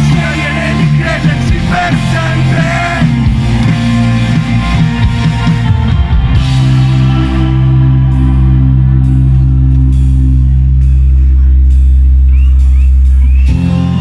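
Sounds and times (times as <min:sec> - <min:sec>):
held low guitar and bass chord: 0:00.0 - 0:14.0
rock band playing loud: 0:00.0 - 0:14.0.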